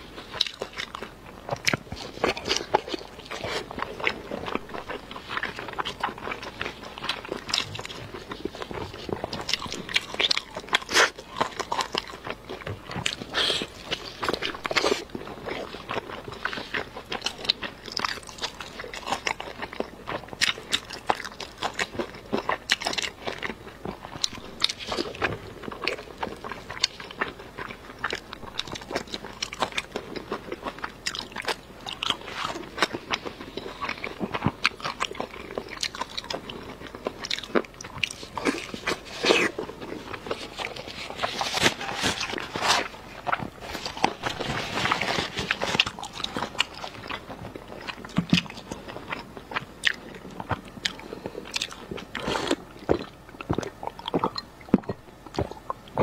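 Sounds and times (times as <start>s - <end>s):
chewing and biting meat: 0.0s - 56.0s.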